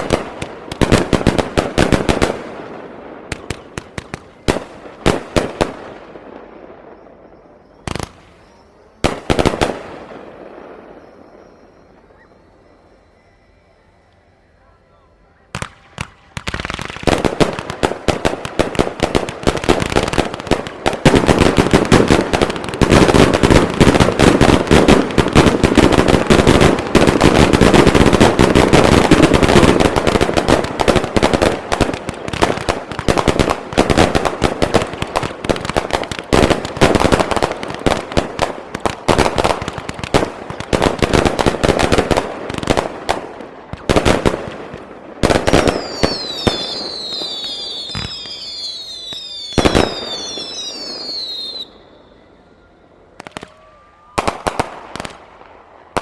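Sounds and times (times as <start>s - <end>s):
fireworks bangs and crackles: 0.0s - 12.2s, 15.5s - 52.4s, 53.1s - 56.0s.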